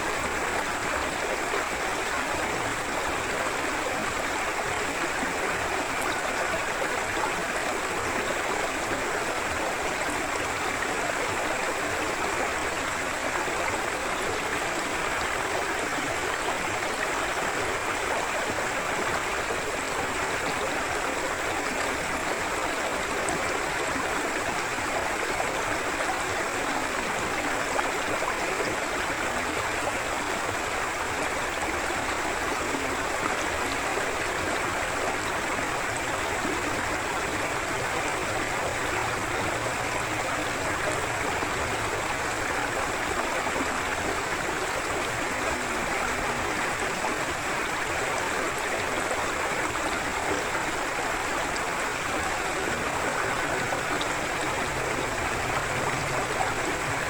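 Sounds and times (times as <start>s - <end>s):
river water rushing and gurgling: 0.0s - 57.0s.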